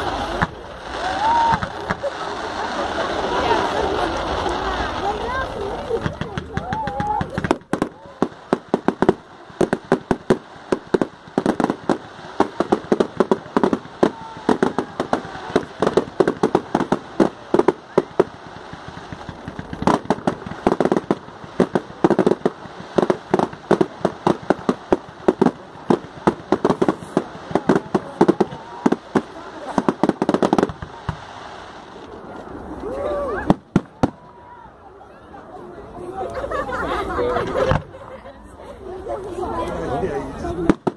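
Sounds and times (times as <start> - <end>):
fireworks bangs and crackles: 0.0 - 38.3, 38.9 - 40.9.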